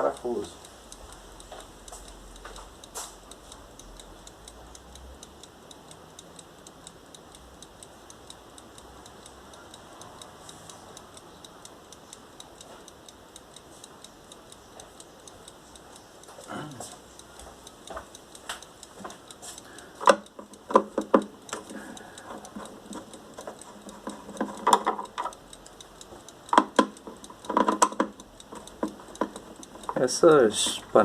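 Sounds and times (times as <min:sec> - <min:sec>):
clockwork ticking: 0:00.0 - 0:31.0.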